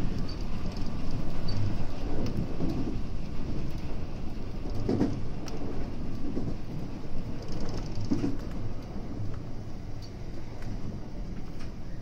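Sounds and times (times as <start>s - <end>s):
train wheels rumbling on rail: 0.0s - 12.0s
wheels clunking over rail joints: 0.0s - 12.0s.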